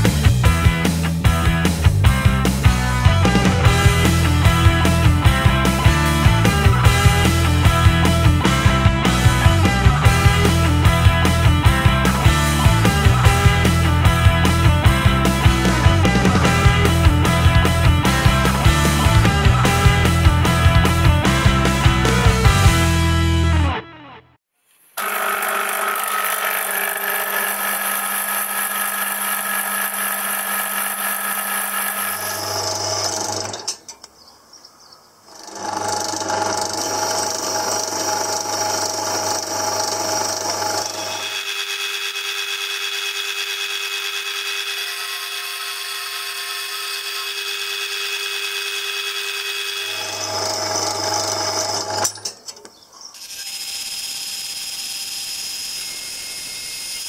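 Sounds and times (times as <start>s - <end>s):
bandsaw cutting steel: 2.5s - 23.1s, 25.0s - 33.9s, 35.3s - 57.0s.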